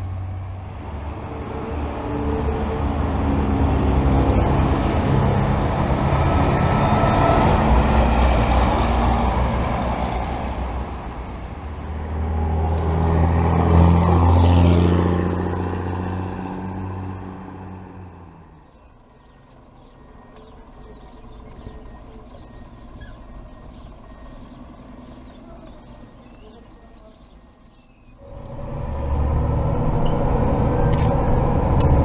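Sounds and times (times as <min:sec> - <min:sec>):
bus diesel engine driving off: 0:00.0 - 0:32.0
passing traffic: 0:00.0 - 0:32.0.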